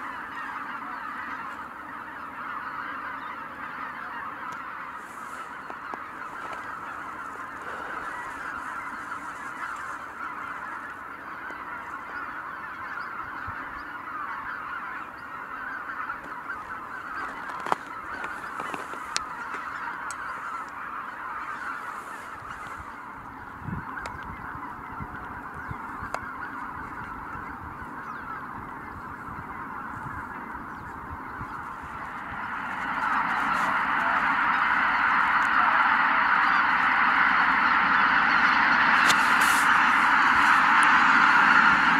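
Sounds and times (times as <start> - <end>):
geese honking: 0.0 - 41.9.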